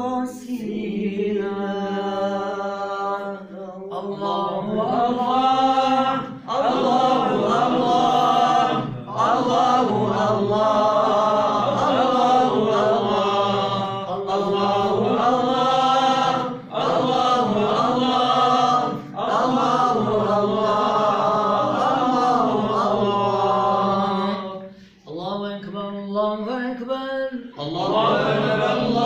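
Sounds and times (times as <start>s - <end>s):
man chanting call to prayer: 0.0s - 29.0s.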